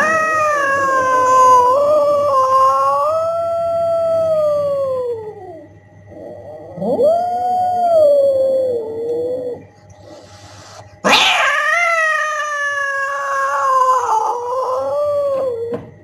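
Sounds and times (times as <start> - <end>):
cat yowling: 0.0 - 15.8.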